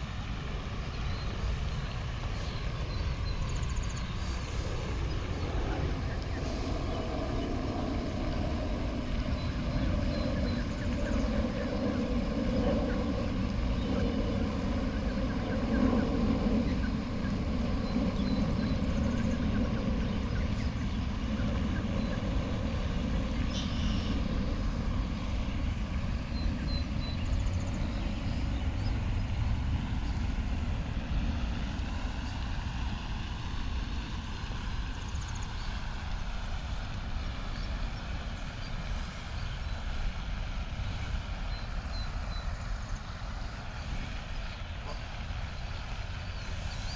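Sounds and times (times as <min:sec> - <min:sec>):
low outdoor rumble: 0:00.0 - 0:46.9.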